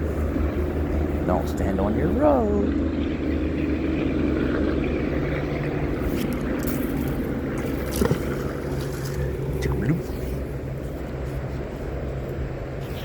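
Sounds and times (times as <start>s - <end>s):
low drone of vehicle engines: 0.0s - 13.0s.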